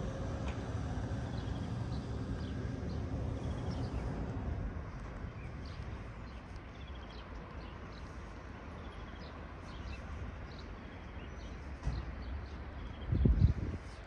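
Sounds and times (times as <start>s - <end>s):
low outdoor rumble: 0.0s - 14.0s
small birds chirping: 1.0s - 14.0s.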